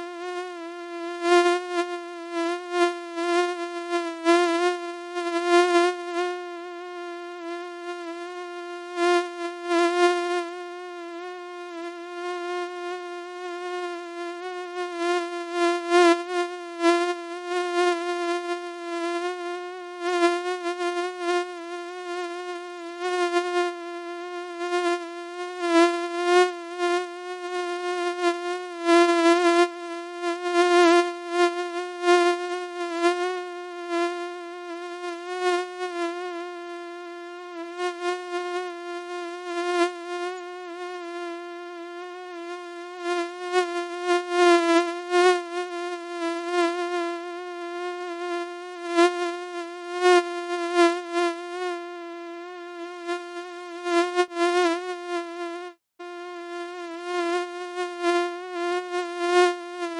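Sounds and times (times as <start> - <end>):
mosquito whine: 0.0 - 59.9.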